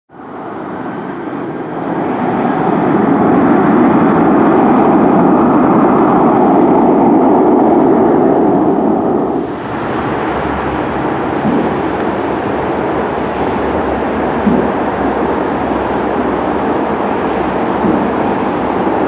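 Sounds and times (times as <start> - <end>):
jet engines rushing: 0.1 - 19.0.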